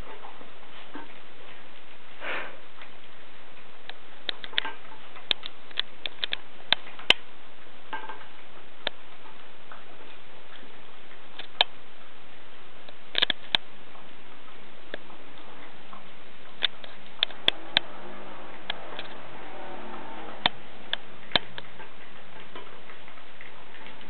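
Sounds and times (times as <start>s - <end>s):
puppy chewing food: 0.0s - 24.0s.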